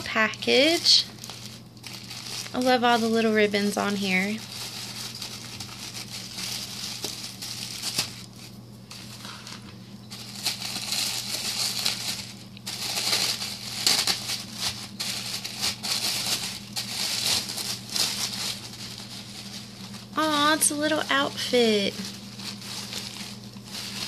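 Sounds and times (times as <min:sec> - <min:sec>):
tissue paper crinkling: 0:00.0 - 0:24.0.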